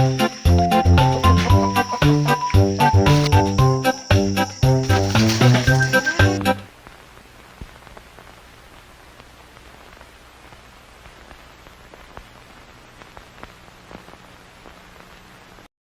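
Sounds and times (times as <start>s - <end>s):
faint hiss: 0.0s - 15.7s.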